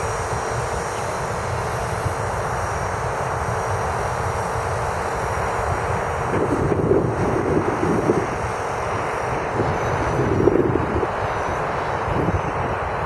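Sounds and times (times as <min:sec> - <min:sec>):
rc helicopter rotor droning: 0:00.0 - 0:13.0.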